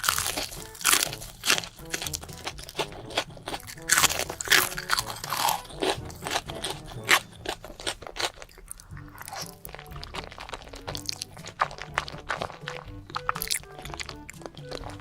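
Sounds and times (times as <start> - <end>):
crunching crisp food: 0.0 - 15.0.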